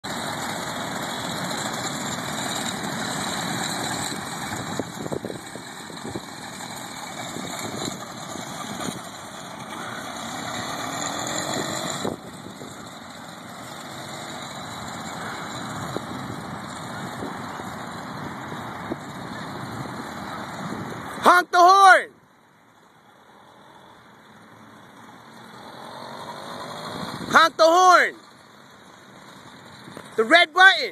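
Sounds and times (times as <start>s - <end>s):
small motorbike engine running: 0.0s - 21.2s, 23.0s - 27.4s.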